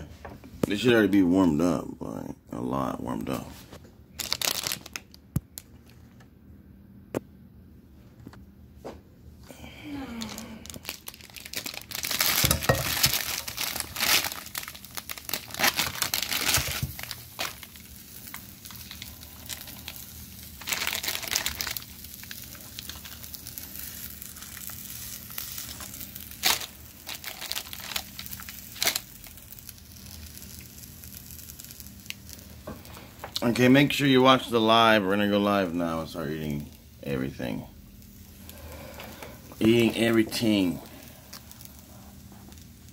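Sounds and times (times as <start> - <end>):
plastic packaging crinkling: 3.8 - 6.2, 9.9 - 42.9.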